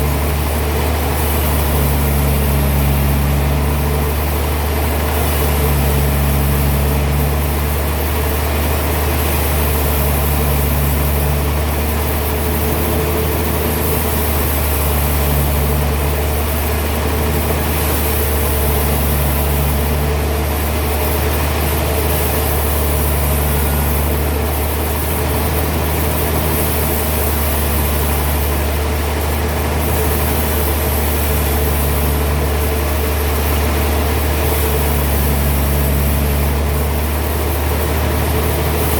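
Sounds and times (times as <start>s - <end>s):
heavy sawmill machinery humming: 0.0s - 38.9s.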